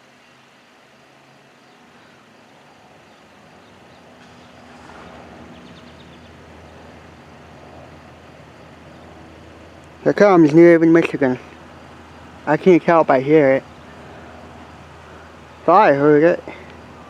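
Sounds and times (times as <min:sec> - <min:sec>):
faint traffic noise: 0:00.0 - 0:17.0
low engine hum: 0:00.0 - 0:17.0.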